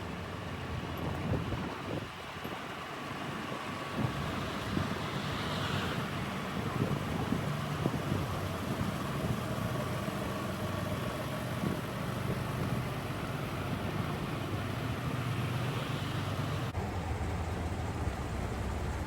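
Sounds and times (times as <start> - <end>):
engine running with low hum: 0.0 - 19.0.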